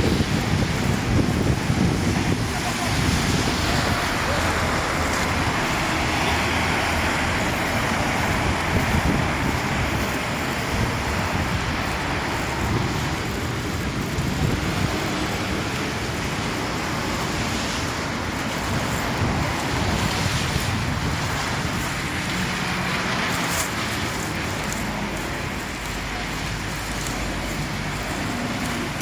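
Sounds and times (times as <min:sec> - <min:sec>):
low traffic rumble: 0:00.0 - 0:29.0
tyre hiss on wet road: 0:00.0 - 0:29.0.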